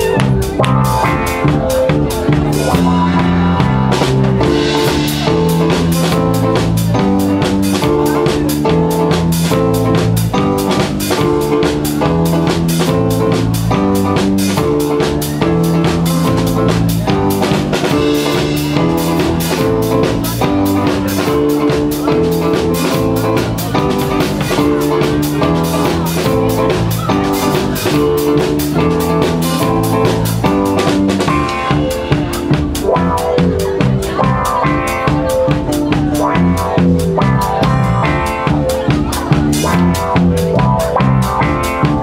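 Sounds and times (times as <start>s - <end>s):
drum kit beat: 0.0s - 42.0s
keyboard chords: 0.0s - 42.0s.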